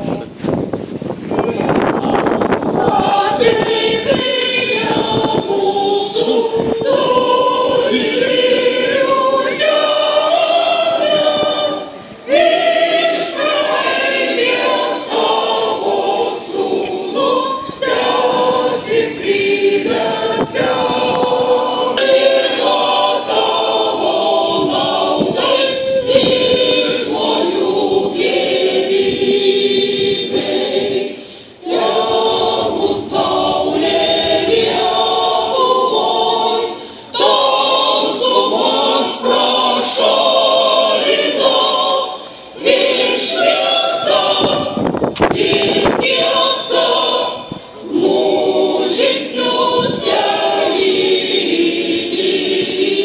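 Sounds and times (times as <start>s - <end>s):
choir singing: 1.2s - 53.0s.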